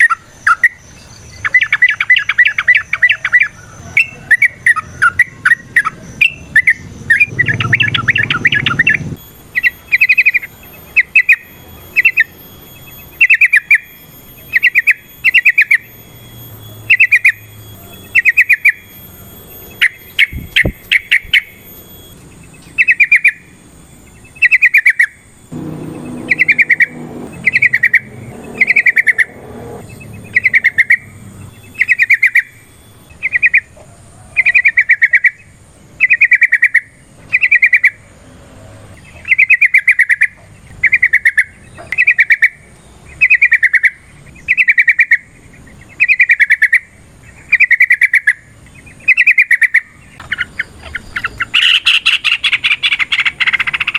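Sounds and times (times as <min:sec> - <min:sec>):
bird chattering song: 0:00.0 - 0:38.1, 0:39.0 - 0:53.9.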